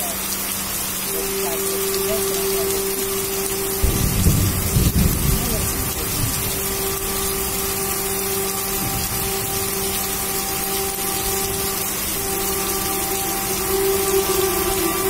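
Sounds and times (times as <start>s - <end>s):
heavy rain pouring: 0.0s - 15.0s
low hum: 1.0s - 15.0s.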